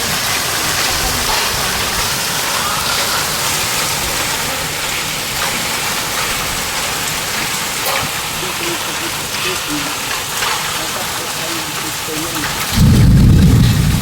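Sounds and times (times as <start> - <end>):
heavy rain with hail: 0.0 - 14.0.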